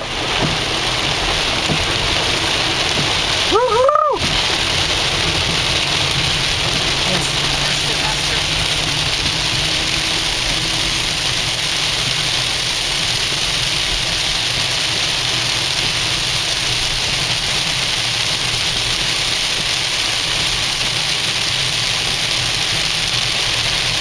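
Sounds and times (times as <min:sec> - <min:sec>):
heavy rain on a car: 0:00.0 - 0:24.0
low engine and road rumble: 0:00.0 - 0:24.0
tyres on wet road: 0:00.0 - 0:24.0.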